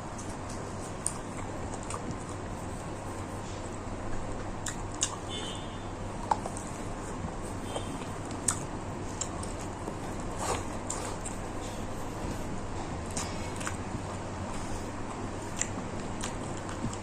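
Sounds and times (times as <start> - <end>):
person chewing with mouth clicks: 0.0 - 5.4, 6.1 - 17.0.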